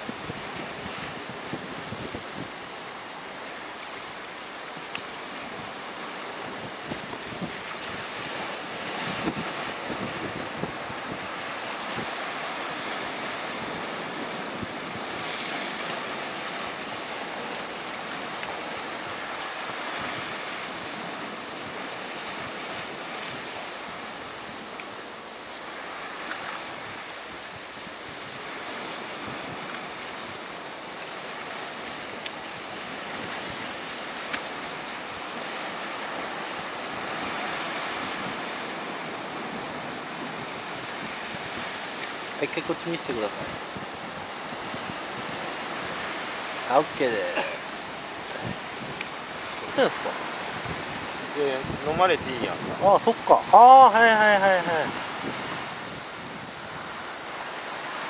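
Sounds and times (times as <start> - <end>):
surf washing against rocks: 0.0 - 58.0.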